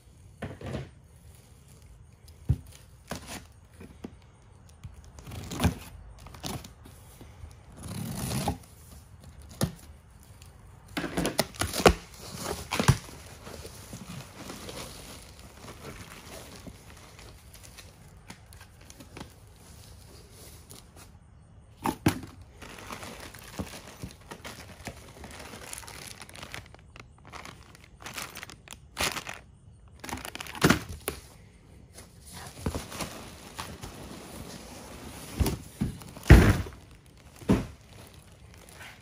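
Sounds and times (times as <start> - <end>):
packaging crinkling and rustling: 1.2 - 21.1, 22.1 - 31.3, 32.0 - 39.0.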